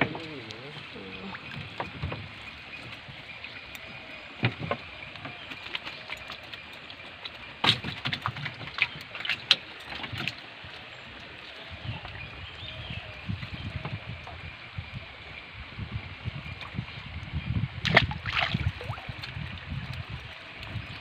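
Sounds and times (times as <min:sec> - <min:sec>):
water dripping and sloshing: 0:00.0 - 0:21.0.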